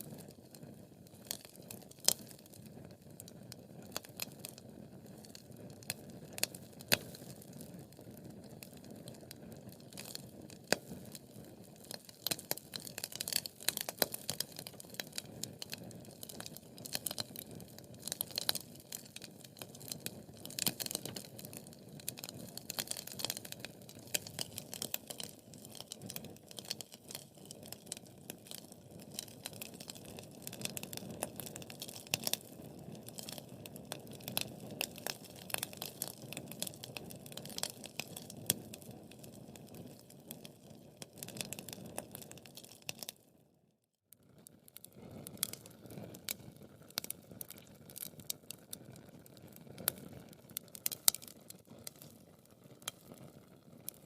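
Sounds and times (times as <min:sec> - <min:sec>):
wood fire crackling: 0:00.0 - 0:43.3, 0:44.4 - 0:54.0.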